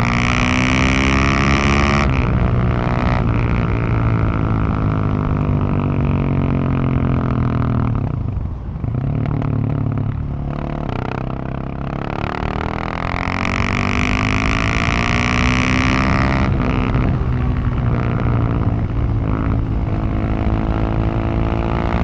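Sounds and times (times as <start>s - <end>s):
motorcycle engine under load: 0.0s - 22.0s.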